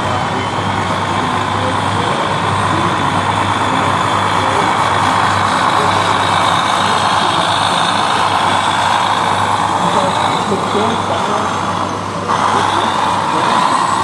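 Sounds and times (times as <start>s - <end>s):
model trucks mechanical whir: 0.0s - 14.0s.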